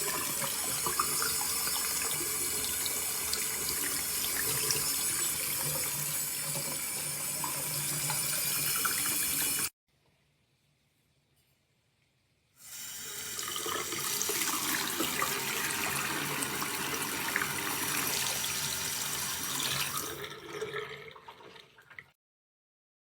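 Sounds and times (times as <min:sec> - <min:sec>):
faucet water running into sink: 0:00.0 - 0:09.7, 0:12.6 - 0:22.1.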